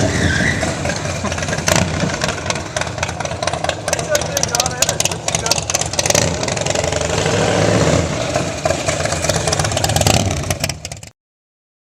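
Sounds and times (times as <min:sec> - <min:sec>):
motorcycle engine running loud: 0:00.9 - 0:11.1.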